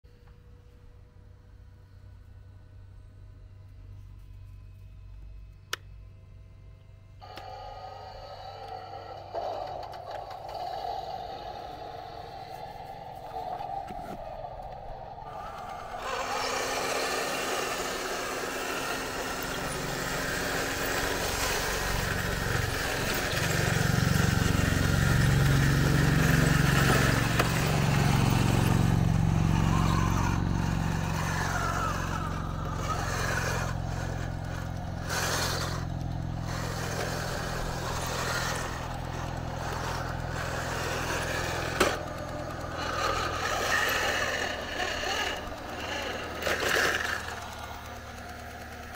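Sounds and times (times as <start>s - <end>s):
simulated tank engine: 0.1s - 48.9s.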